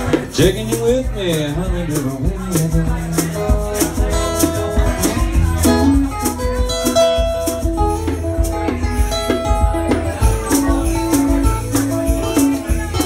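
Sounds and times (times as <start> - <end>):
acoustic guitar melody: 0.0 - 13.0
hand percussion beat: 0.0 - 13.0.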